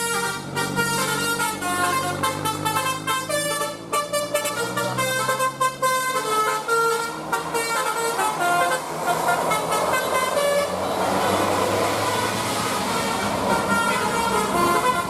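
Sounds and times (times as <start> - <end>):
musical bus horn tune: 0.0 - 15.0
road noise: 0.0 - 15.0.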